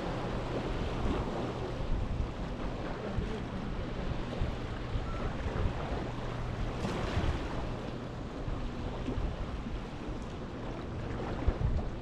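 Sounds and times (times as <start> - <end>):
sea waves washing in: 0.0 - 12.0
wind rumbling on microphone: 0.0 - 12.0.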